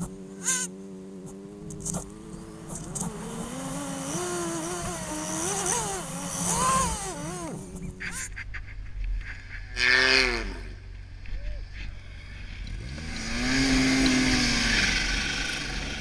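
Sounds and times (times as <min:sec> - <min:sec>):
snowmobile engine accelerating: 0:00.0 - 0:08.3, 0:09.7 - 0:10.8, 0:12.0 - 0:16.0.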